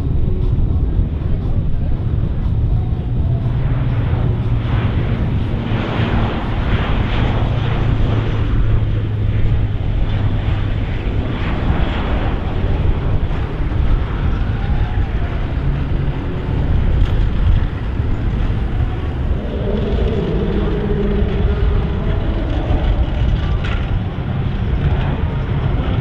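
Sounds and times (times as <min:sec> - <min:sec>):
propeller hum: 0:00.0 - 0:26.0
rushing engine noise: 0:00.0 - 0:26.0.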